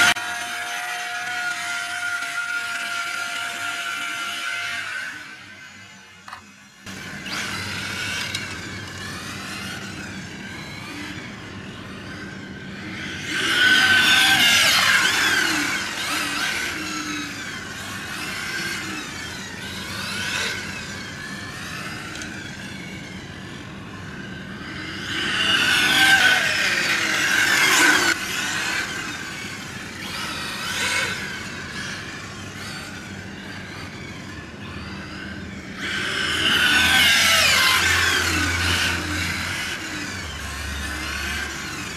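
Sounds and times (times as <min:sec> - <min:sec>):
electric rc car motor whine: 0:00.0 - 0:41.9.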